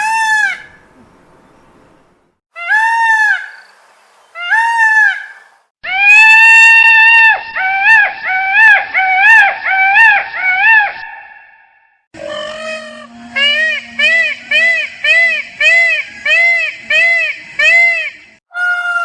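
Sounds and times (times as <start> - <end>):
peacock calling: 2.5 - 11.4, 12.2 - 19.0.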